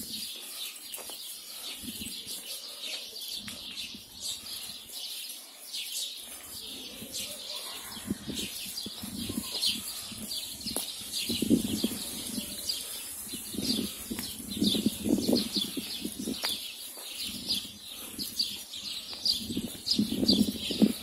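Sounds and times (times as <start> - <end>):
footsteps on dirt path: 0.0 - 21.0
small birds chirping: 0.0 - 21.0.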